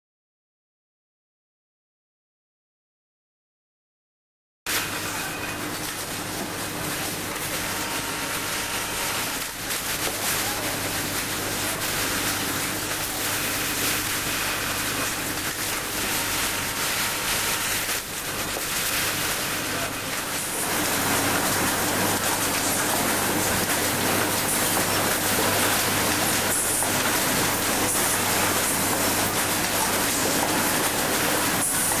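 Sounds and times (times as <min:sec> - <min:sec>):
industrial sewing machines running: 0:04.7 - 0:32.0.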